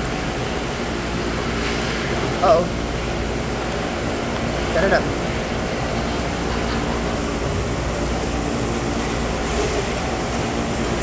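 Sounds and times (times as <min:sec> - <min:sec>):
ventilation fans humming: 0:00.0 - 0:11.0.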